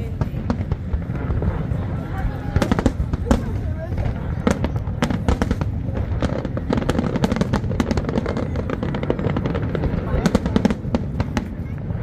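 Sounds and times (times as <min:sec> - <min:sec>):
continuous low rumble: 0:00.0 - 0:12.0
fireworks bangs and crackles: 0:00.0 - 0:12.0.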